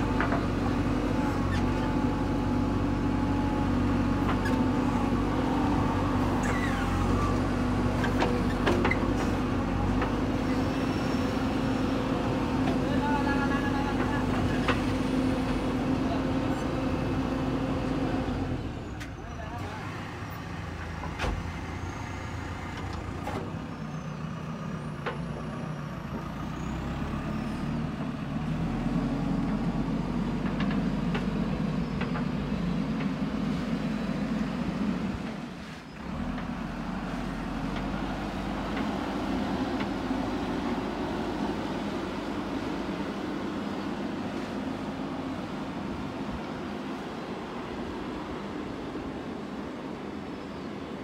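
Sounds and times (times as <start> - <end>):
diesel engines running: 0.0 - 51.0.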